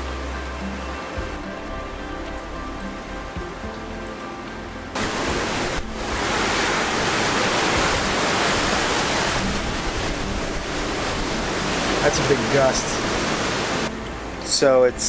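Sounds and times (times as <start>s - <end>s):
music: 0.0s - 15.0s
wind gusting with rain: 0.0s - 15.0s.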